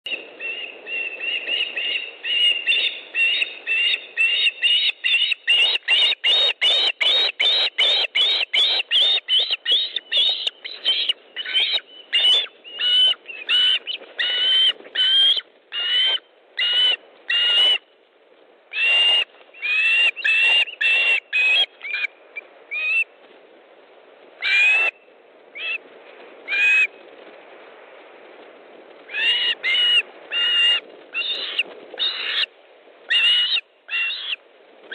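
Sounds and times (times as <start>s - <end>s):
osprey high whistled calls: 0.1s - 17.8s, 18.7s - 23.1s, 24.4s - 25.8s, 26.5s - 26.9s, 29.1s - 32.5s, 33.1s - 34.4s.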